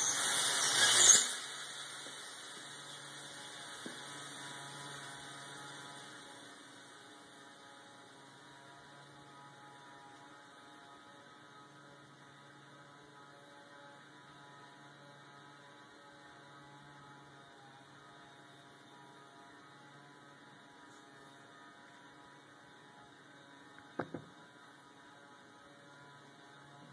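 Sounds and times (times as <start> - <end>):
faint electrical mains hum: 0.0 - 26.9.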